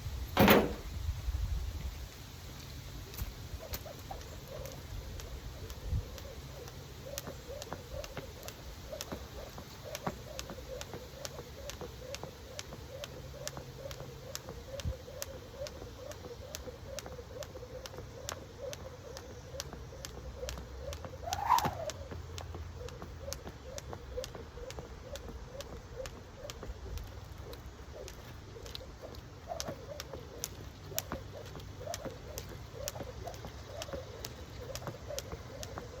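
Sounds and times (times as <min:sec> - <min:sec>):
jump rope slapping floor: 0:03.6 - 0:36.0.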